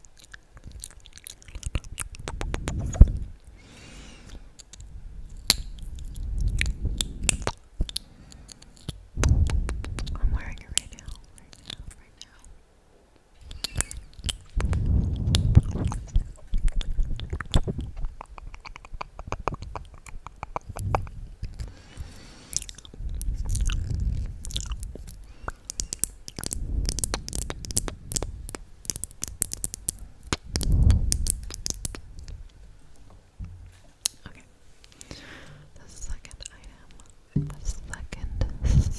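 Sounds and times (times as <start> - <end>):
wet mouth clicks and smacks: 0.0 - 3.5, 4.3 - 12.4, 13.4 - 32.6, 33.4 - 35.2.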